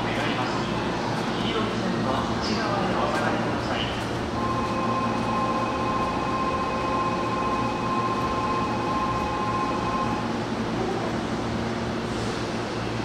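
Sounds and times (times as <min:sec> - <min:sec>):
steady multi-tone whine: 0:00.0 - 0:11.2
train equipment humming: 0:00.0 - 0:13.0.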